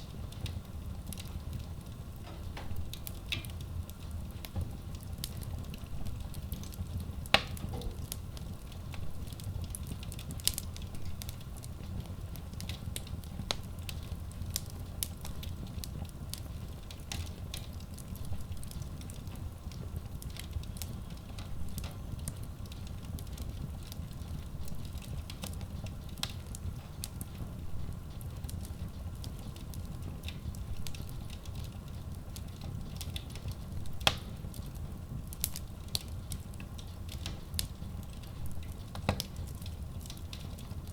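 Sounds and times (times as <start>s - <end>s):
low rumble of flame: 0.0s - 40.9s
wood crackling and popping: 0.0s - 40.9s.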